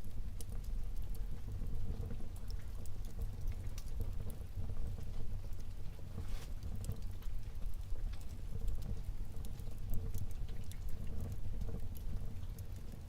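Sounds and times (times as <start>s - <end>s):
fire crackling and popping: 0.0s - 13.0s
wood fire rumbling: 0.0s - 13.0s.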